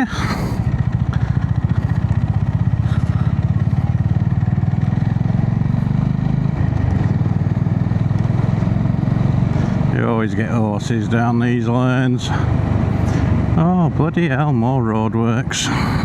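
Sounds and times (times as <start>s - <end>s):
motorcycle engine throbbing: 0.0s - 16.0s
road and wind noise: 0.0s - 16.0s.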